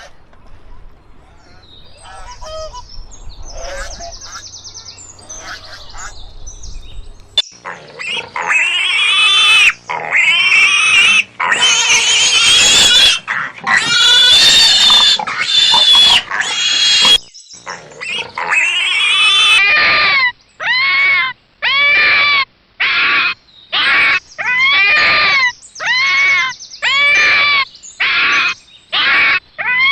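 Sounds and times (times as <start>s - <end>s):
animal squealing: 3.5s - 4.4s, 5.2s - 6.1s, 7.6s - 29.9s.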